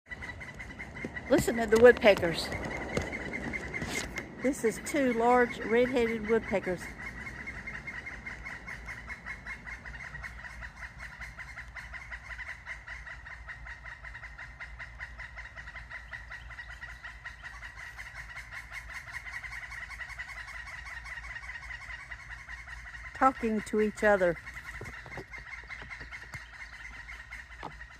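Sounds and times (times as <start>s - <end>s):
woodpeckers chattering: 0.1s - 27.9s.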